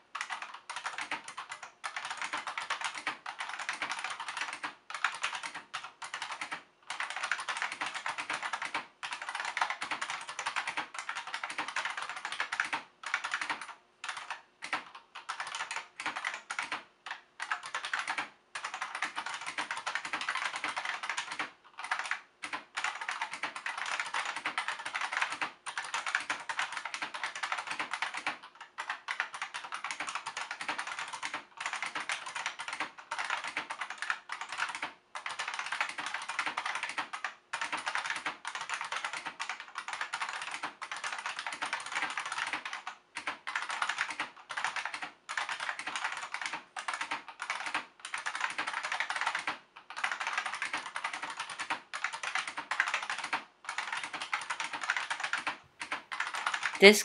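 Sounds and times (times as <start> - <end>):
clicky keyboard typing: 0.1 - 57.0.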